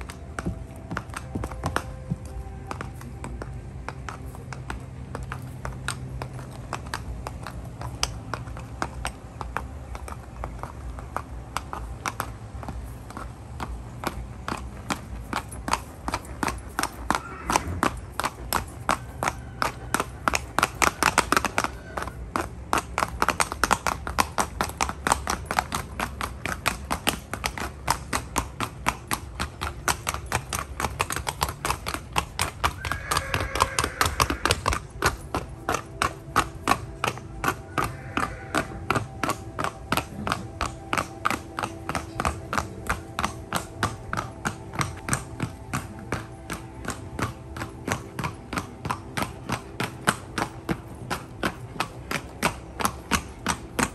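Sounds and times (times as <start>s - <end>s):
horse hooves on concrete: 0.0s - 53.9s.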